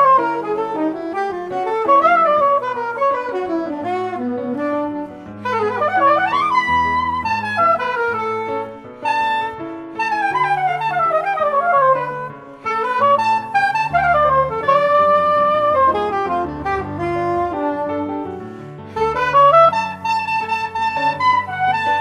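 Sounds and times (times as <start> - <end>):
lower accompaniment notes: 0.0 - 22.0
soprano saxophone jazz line: 0.0 - 22.0.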